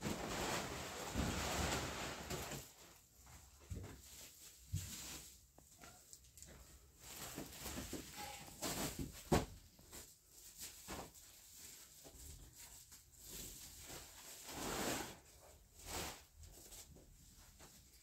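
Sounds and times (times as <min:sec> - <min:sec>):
plastic sheet and cloth rustling: 0:00.0 - 0:18.0.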